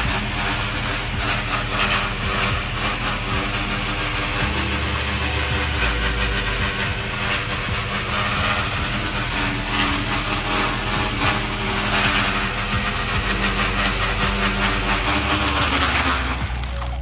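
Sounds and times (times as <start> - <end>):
drone rotors buzzing: 0.0 - 17.0.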